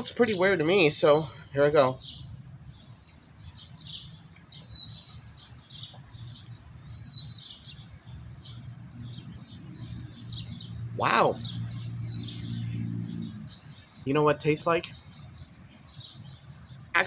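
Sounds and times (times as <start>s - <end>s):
wild birds chirping: 0.0s - 17.0s.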